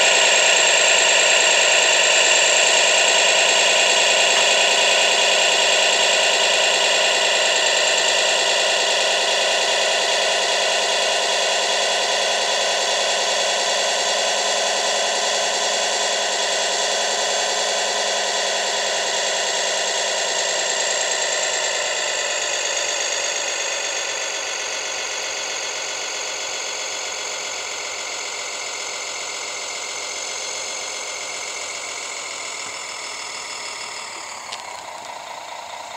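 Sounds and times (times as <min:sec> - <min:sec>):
toy truck motor whining: 0:00.0 - 0:35.9.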